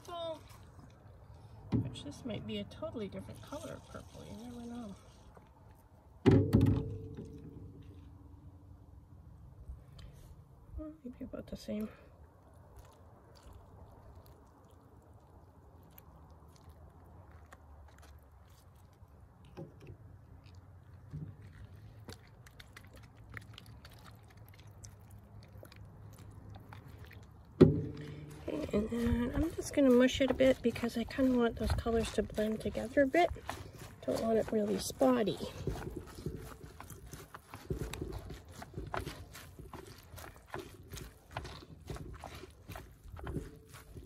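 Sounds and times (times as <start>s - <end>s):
low steady hum: 0.0s - 44.0s
wet squelches of kneaded fabric: 7.8s - 44.0s.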